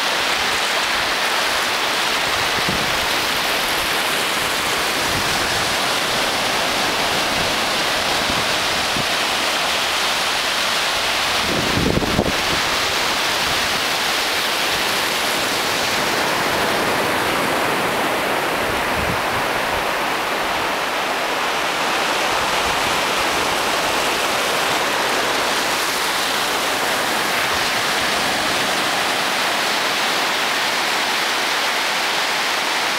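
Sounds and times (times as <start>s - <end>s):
small waves washing on sand: 0.0s - 32.9s.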